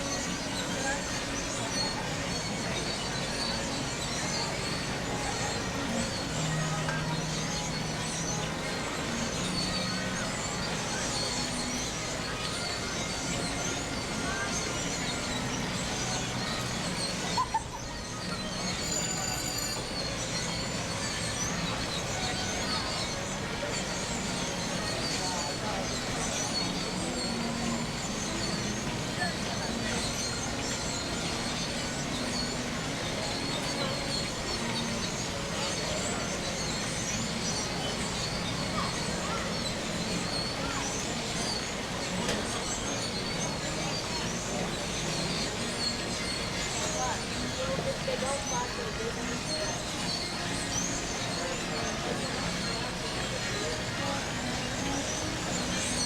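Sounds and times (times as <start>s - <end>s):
crowd: 0.0s - 56.0s
faint indistinct voices: 0.0s - 56.0s
small birds chirping: 0.0s - 56.0s
wind: 0.0s - 56.0s.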